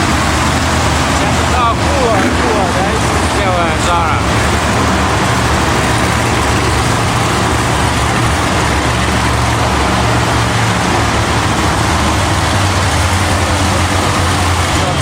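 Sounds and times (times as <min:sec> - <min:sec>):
arena noise: 0:00.0 - 0:15.0
low engine drone: 0:00.0 - 0:15.0.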